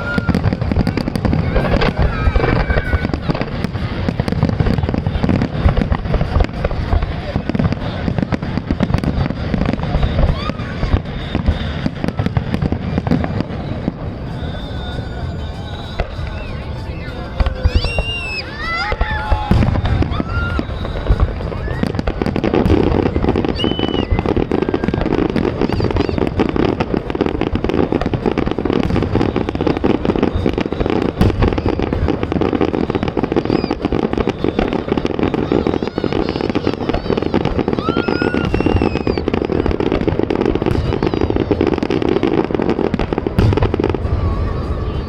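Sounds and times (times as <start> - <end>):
fireworks bangs and crackling: 0.0 - 45.0
fireworks whistles: 0.0 - 45.0.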